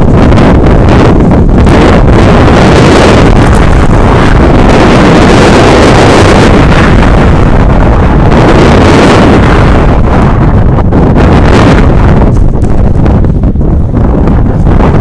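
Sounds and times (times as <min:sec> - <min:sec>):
heavy wind buffeting microphone: 0:00.0 - 0:15.0.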